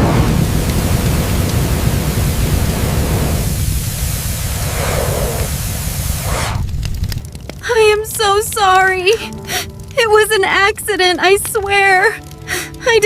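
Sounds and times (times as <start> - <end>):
deep rumble: 0.0 - 10.6
fire roaring: 0.0 - 13.0.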